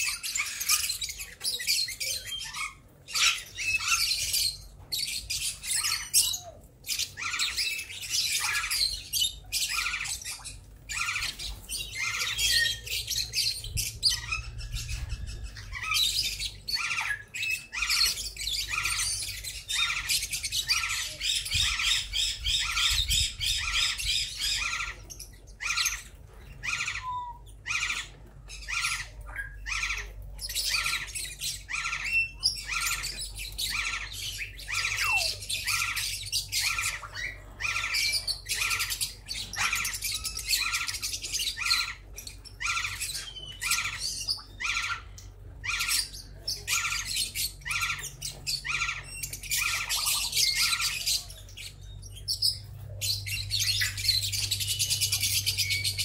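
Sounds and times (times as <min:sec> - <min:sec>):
parrots chattering and squawking: 0:00.0 - 0:56.0.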